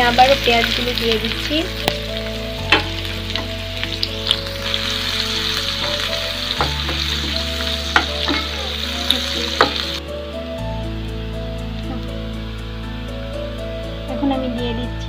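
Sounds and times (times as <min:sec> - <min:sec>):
onions sizzling in oil: 0:00.0 - 0:14.7.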